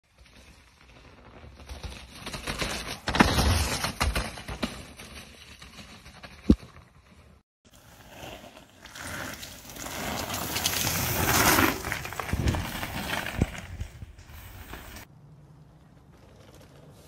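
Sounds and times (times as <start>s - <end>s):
bike tyres skidding on gravel: 0.0s - 15.1s, 15.7s - 17.0s.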